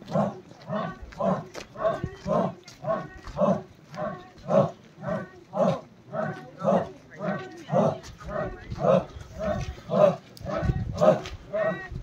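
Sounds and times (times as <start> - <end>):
crowd chanting in unison: 0.0 - 12.0.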